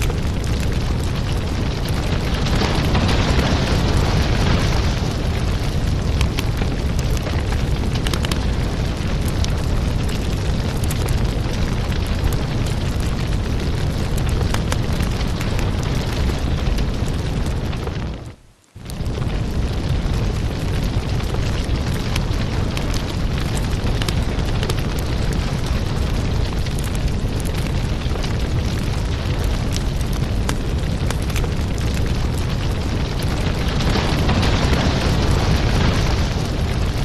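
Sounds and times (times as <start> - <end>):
firewood burning with crackles: 0.0 - 37.0.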